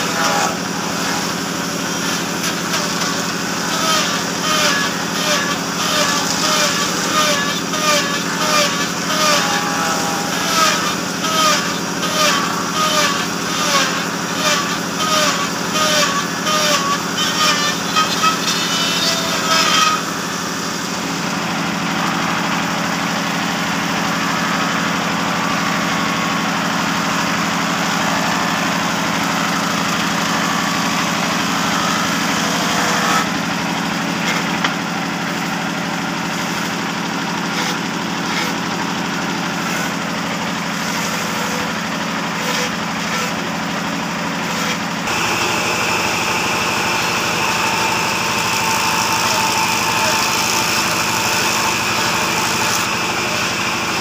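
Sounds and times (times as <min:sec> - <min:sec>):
electric router cutting wood: 0:00.0 - 0:54.0
table saw cutting boards: 0:00.0 - 0:54.0.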